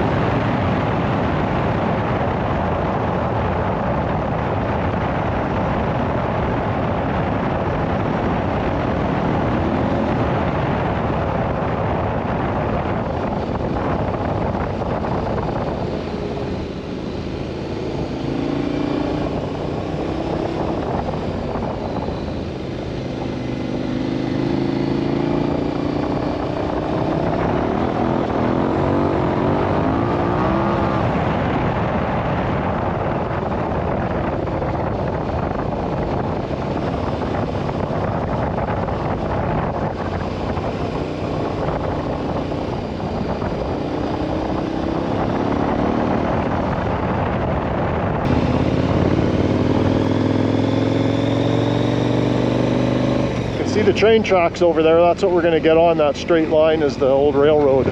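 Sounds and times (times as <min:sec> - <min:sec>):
motorcycle engine revving: 0:07.5 - 0:32.1, 0:34.1 - 0:57.9.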